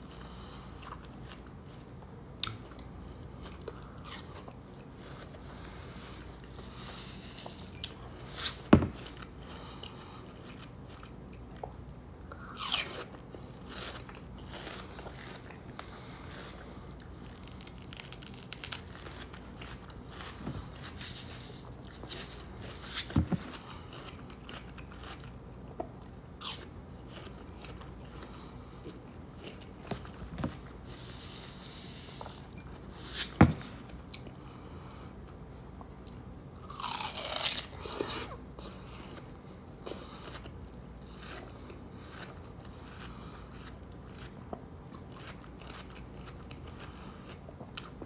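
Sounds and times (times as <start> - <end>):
biting and chewing watermelon: 0.1 - 35.0, 36.0 - 48.0.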